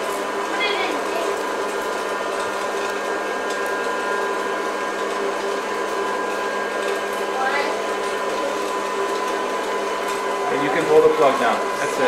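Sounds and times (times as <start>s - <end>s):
popcorn popper fan whirring: 0.0s - 12.0s.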